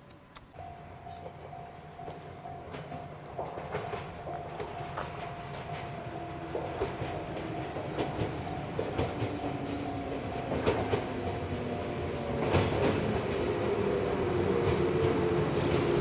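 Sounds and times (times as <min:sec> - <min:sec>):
train rumble: 0:00.6 - 0:16.0
train wheels clicking over rail joints: 0:01.1 - 0:16.0.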